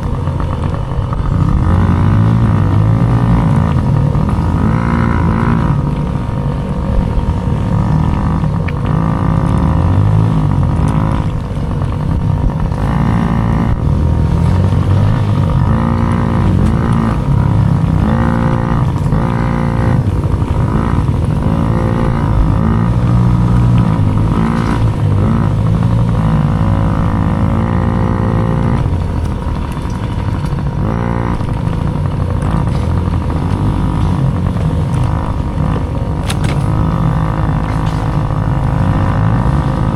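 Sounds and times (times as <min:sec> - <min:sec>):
dirt bike engine racing: 0:00.0 - 0:39.9.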